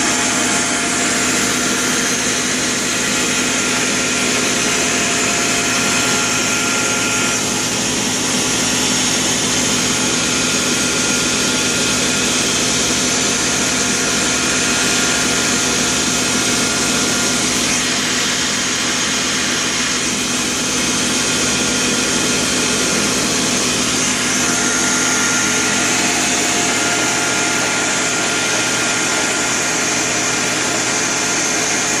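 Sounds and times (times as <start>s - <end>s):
lathe humming: 0.0s - 32.0s.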